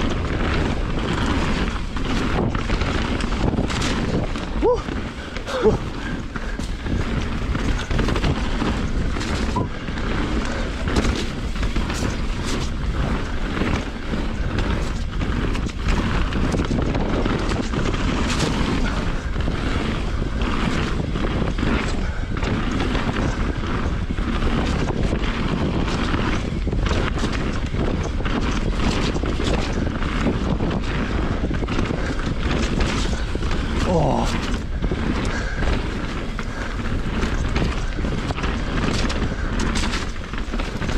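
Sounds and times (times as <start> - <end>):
bike clattering and knocking: 0.0 - 40.9
tyres rumbling on dirt: 0.0 - 40.9
wind buffeting microphone: 0.0 - 40.9.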